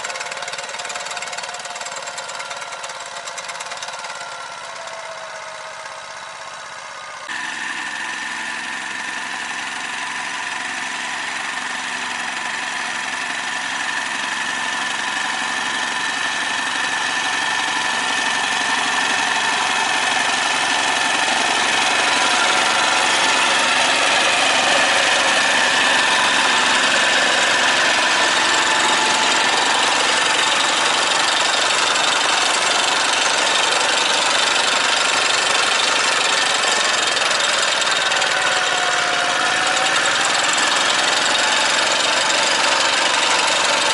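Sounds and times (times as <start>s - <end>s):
tractor engine running under load: 0.0s - 43.9s.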